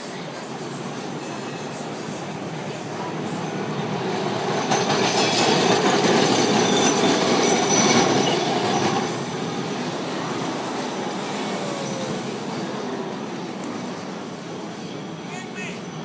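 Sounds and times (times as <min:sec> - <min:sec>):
streetcar wheels rumbling on rails: 0:00.0 - 0:16.0.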